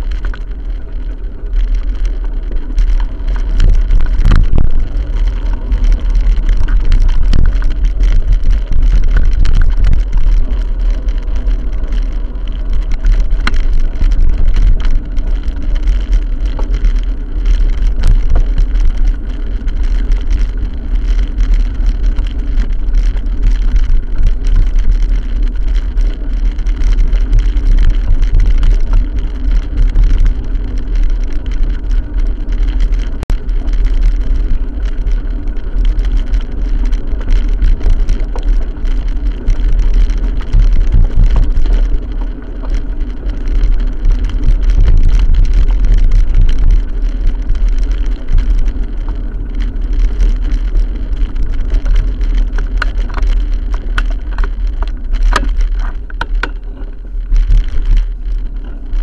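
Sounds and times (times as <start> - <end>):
road and vehicle noise: 0.0 - 59.0
wind rumble on microphone: 0.0 - 59.0.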